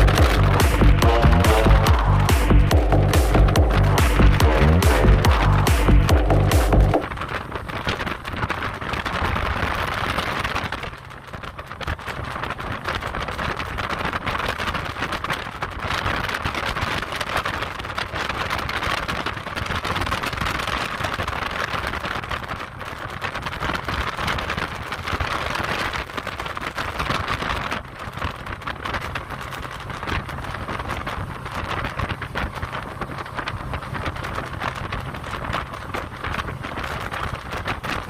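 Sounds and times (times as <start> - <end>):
jet boat engine and water spray: 0.0 - 38.0.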